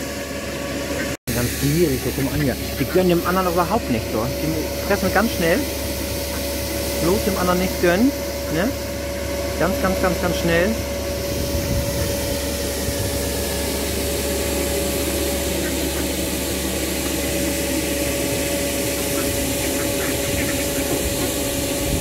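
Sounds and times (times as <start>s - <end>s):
low machinery hum: 0.0s - 22.0s
machinery whine: 0.0s - 22.0s.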